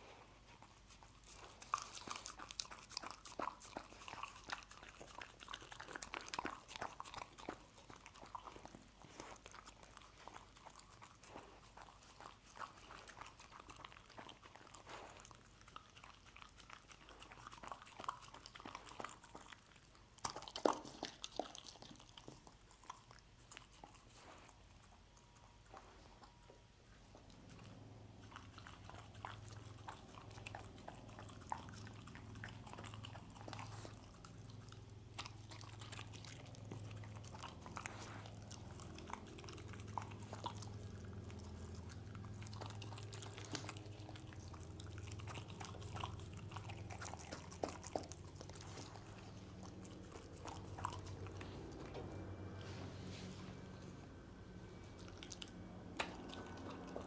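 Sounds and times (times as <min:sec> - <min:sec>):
dog chewing and licking: 0:00.0 - 0:57.0
low steady hum: 0:00.0 - 0:57.0.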